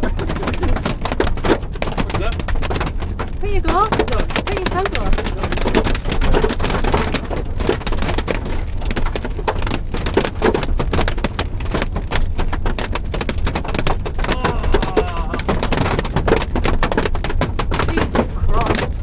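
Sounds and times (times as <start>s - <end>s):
hailstones pelting a car: 0.0s - 19.0s.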